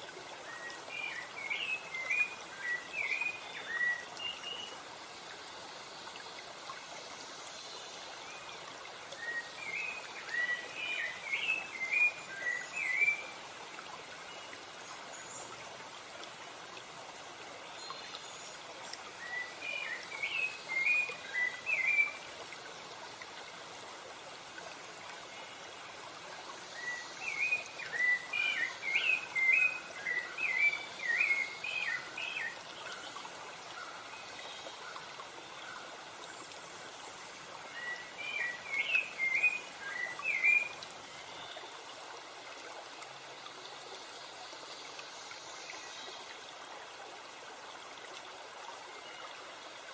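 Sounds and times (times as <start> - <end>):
rushing stream water: 0.0 - 49.9.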